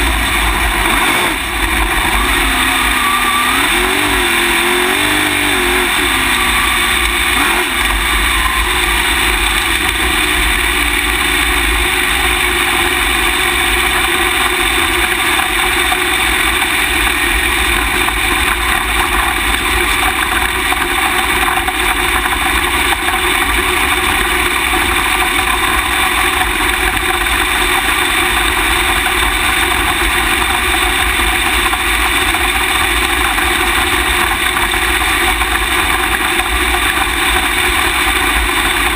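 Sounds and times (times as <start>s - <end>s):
race car engine: 0.0s - 38.9s.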